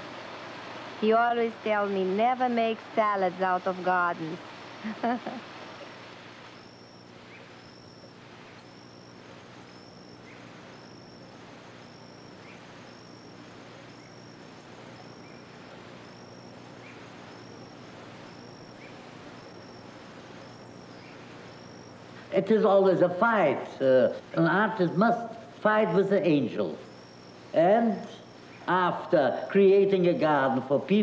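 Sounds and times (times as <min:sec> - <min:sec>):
low hum: 0:00.0 - 0:30.8
insect chirping: 0:00.0 - 0:31.0.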